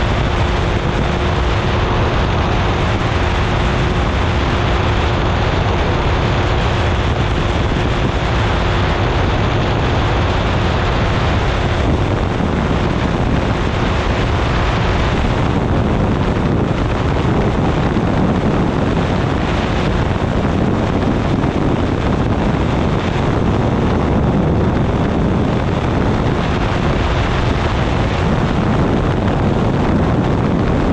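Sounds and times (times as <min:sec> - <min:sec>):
aircraft engine and propeller: 0:00.0 - 0:30.9
wind rush on microphone: 0:00.0 - 0:30.9.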